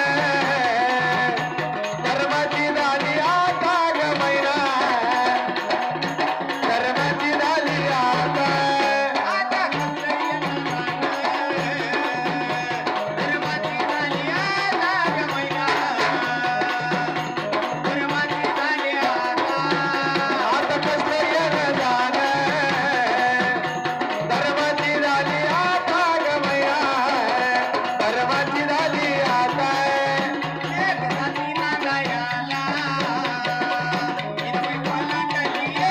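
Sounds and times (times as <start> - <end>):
hand drum rhythm: 0.0 - 35.9.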